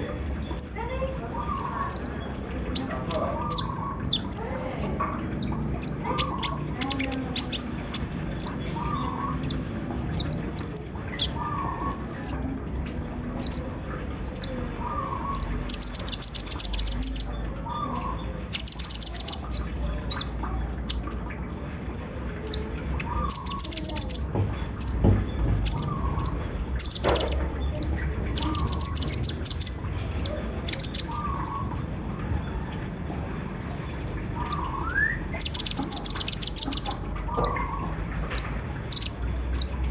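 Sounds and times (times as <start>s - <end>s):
bird chirping and trilling: 0.0s - 21.6s, 22.3s - 31.9s, 34.2s - 39.9s.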